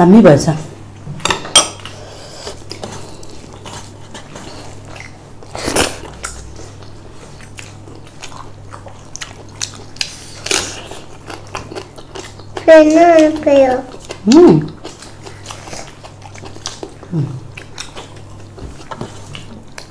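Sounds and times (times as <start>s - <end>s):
steady low hum: 0.0s - 19.9s
chewing: 1.5s - 19.9s.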